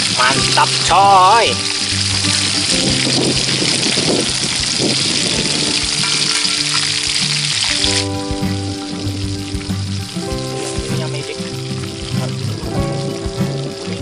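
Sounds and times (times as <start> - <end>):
deep-frying sizzle in hot oil: 0.0 - 14.0.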